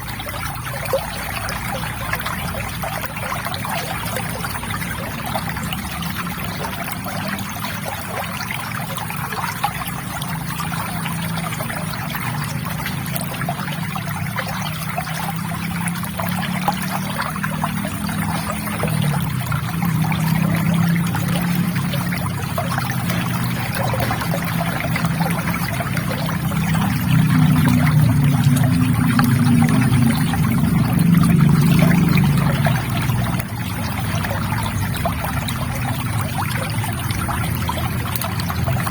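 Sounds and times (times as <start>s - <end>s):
river water trickling and gurgling: 0.0s - 38.9s.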